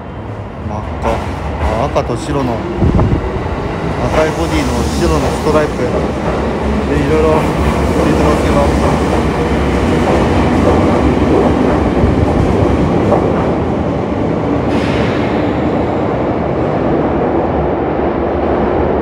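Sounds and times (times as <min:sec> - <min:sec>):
train rumbling through tunnel: 0:00.0 - 0:19.0.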